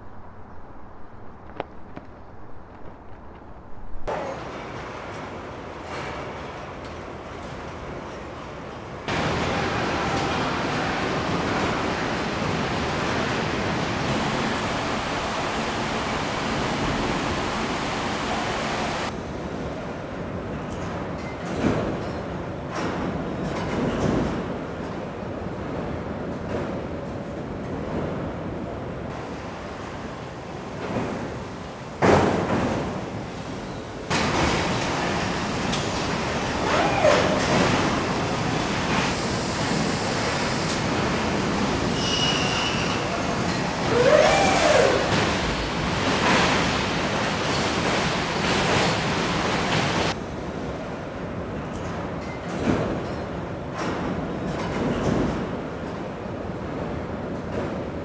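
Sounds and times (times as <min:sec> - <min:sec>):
factory machinery rushing noise: 0:02.7 - 0:51.6.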